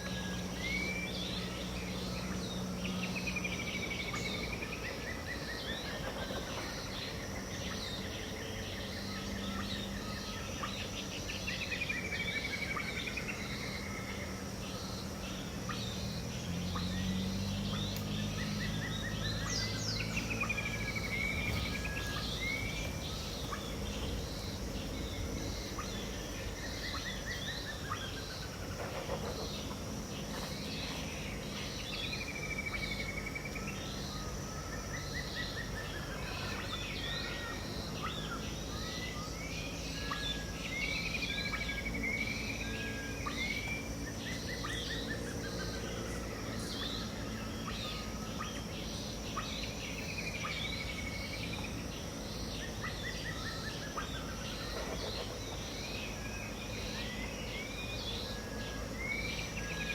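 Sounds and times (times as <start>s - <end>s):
birds calling and singing: 0.0s - 59.9s
high insect drone: 0.0s - 59.9s.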